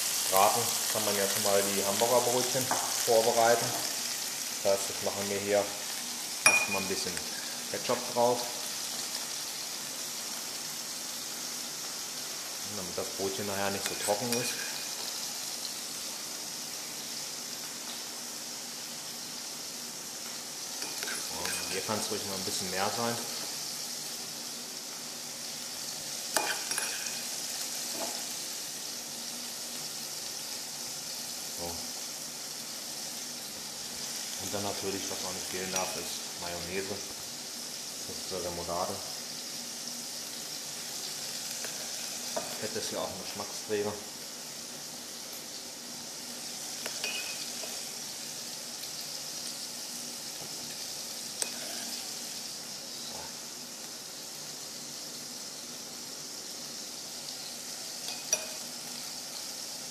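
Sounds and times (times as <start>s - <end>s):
patties sizzling in a pan: 0.0s - 59.9s.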